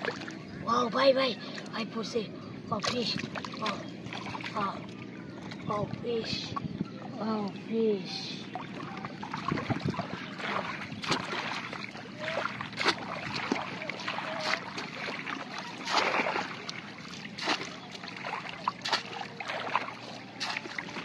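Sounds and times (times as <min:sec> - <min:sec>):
shallow water splashing: 0:00.0 - 0:00.8, 0:02.7 - 0:21.0.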